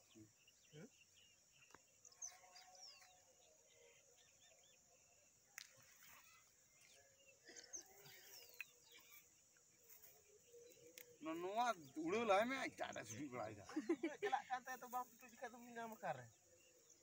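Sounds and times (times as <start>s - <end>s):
faint bird chirps and calls: 0.0s - 17.0s
steady high-pitched hiss: 0.0s - 17.0s.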